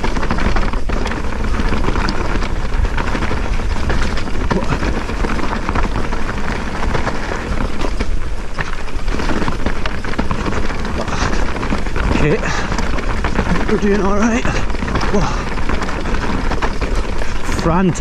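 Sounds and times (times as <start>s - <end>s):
bike tyres crunching over rock: 0.0s - 18.0s
wind rumble on microphone: 0.0s - 18.0s.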